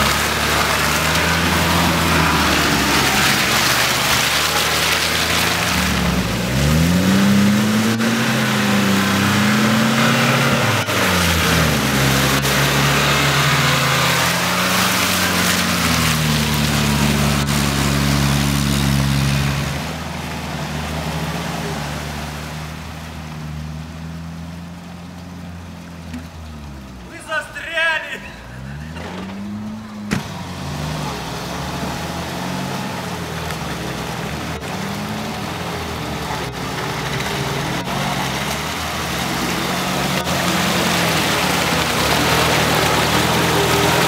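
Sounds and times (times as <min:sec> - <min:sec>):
off-road vehicle engine revving: 0:00.0 - 0:27.1, 0:28.4 - 0:44.0
tyres churning mud: 0:00.0 - 0:44.0.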